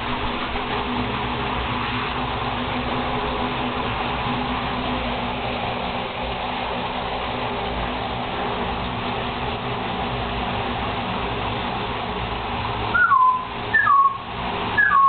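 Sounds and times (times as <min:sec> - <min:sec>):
shower water spraying into bathtub: 0:00.0 - 0:14.8.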